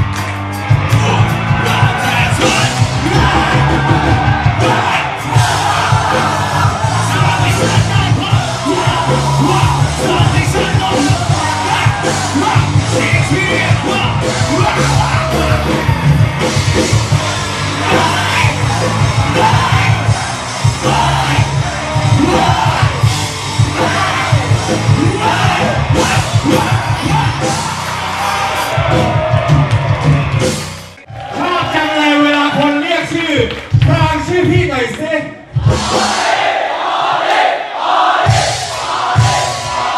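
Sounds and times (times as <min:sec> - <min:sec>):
heavy bass: 0:00.0 - 0:31.6, 0:33.1 - 0:36.6, 0:38.2 - 0:39.9
crowd of men yelling and singing: 0:00.0 - 0:32.9, 0:34.8 - 0:39.9
loud rock band playing: 0:00.0 - 0:37.2, 0:37.9 - 0:39.9.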